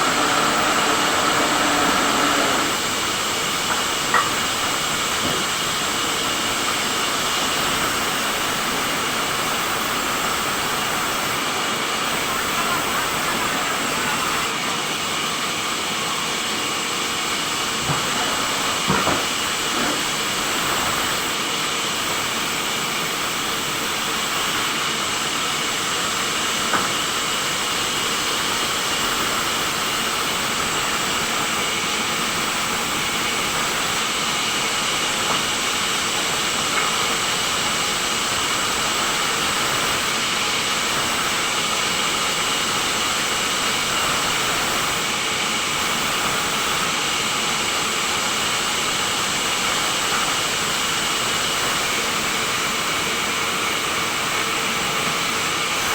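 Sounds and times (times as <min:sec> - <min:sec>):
sawmill machinery cutting timber: 0:00.0 - 0:55.9.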